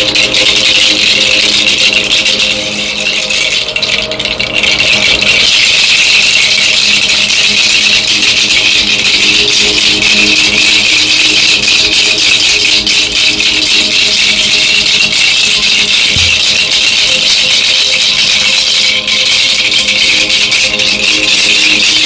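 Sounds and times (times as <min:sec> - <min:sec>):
seed pod rattle shaking: 0:00.0 - 0:22.0.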